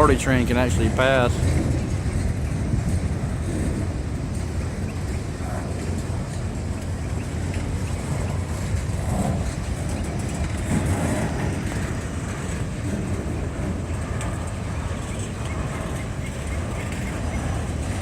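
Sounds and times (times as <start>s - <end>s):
freight train wheels rumbling on track: 0.0s - 18.0s.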